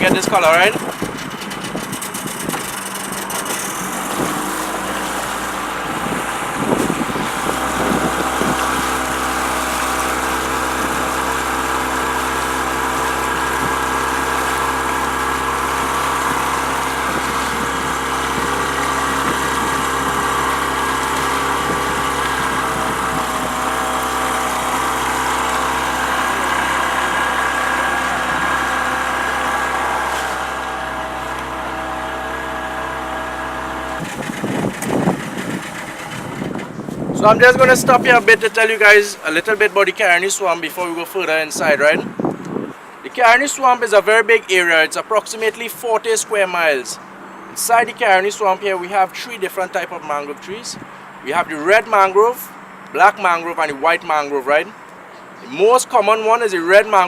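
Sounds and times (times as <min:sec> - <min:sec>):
boat motor running: 0:00.0 - 0:55.4.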